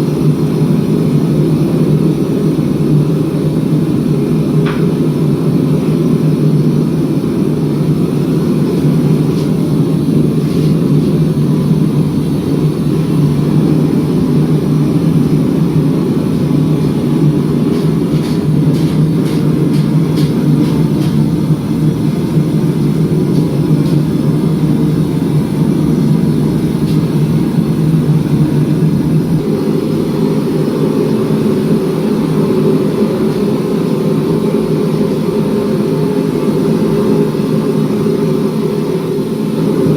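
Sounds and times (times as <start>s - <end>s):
shop machinery running: 0.0s - 39.9s.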